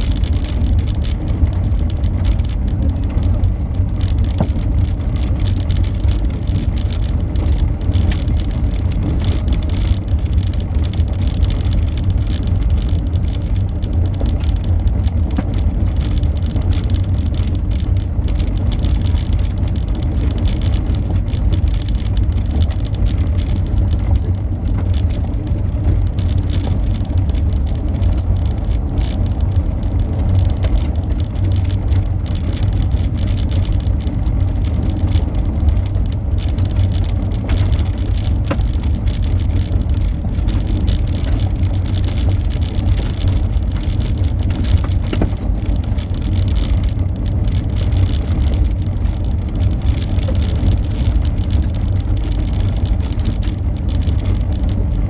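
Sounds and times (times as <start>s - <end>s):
car driving on gravel: 0.0s - 55.0s
faint stone ticks: 4.0s - 55.0s.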